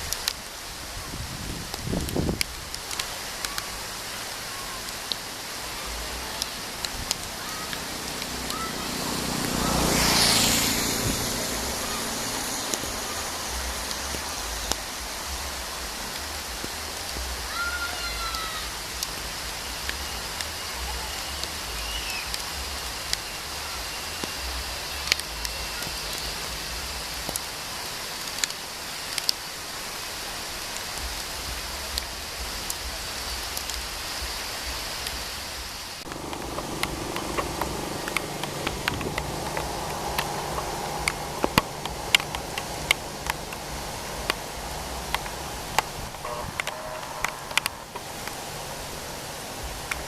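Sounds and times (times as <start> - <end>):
rain hissing: 0.0 - 50.0.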